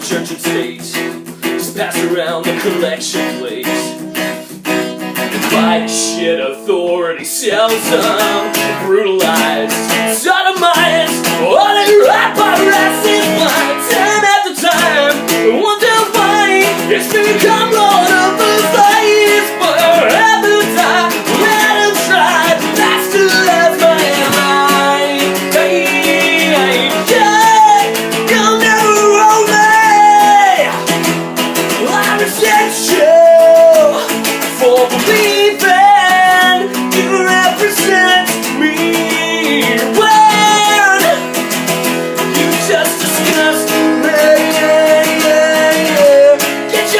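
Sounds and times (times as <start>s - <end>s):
guitar-driven song: 0.0s - 46.9s.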